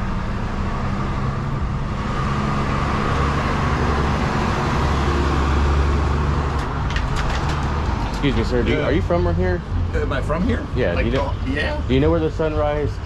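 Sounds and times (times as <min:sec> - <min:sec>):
cars rumbling on road: 0:00.0 - 0:13.0.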